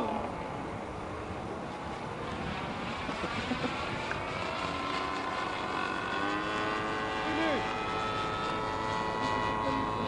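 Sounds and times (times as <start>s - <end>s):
model airplane engine droning: 0.0s - 10.0s.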